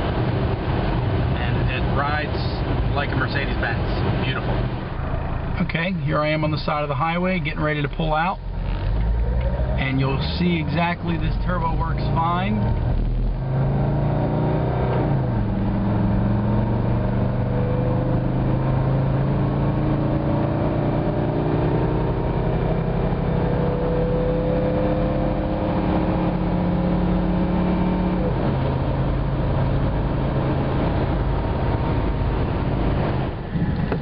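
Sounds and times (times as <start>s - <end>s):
diesel engine accelerating: 0.0s - 34.0s.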